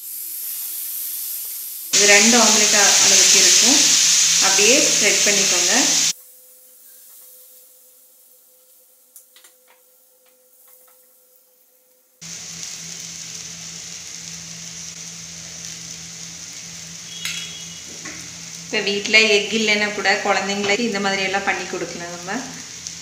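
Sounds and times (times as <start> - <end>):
batter sizzling in oil: 0.0 - 23.0.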